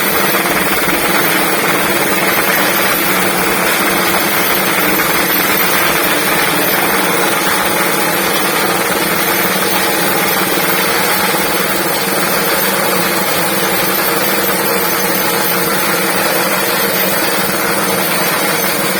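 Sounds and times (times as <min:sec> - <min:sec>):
loud mechanical buzz of vibrator: 0:00.0 - 0:18.9.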